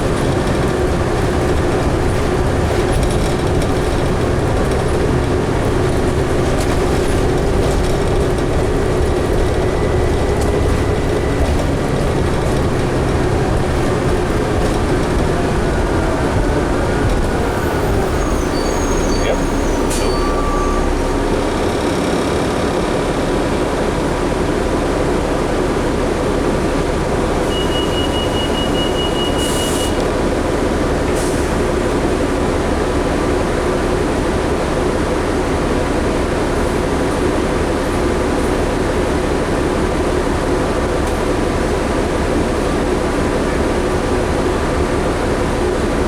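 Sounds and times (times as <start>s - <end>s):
bus engine drone: 0.0s - 46.0s
road noise: 0.0s - 46.0s.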